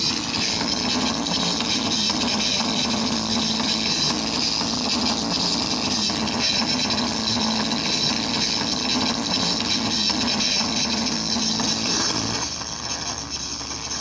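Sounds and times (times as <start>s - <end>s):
distorted bass-heavy music from speaker: 0.0s - 14.0s.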